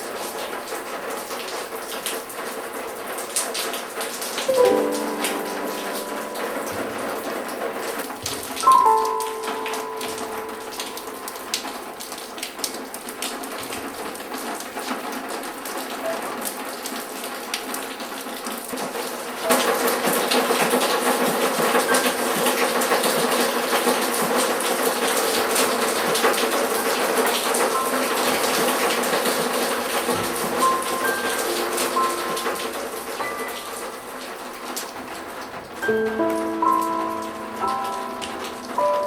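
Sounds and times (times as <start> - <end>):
rain falling and splashing: 0.0 - 39.0.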